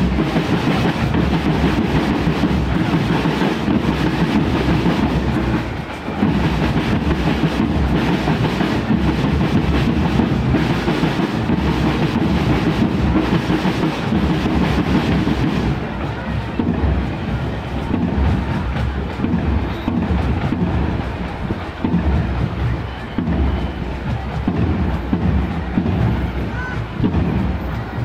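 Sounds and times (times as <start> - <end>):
marching drums beating: 0.0 - 28.0.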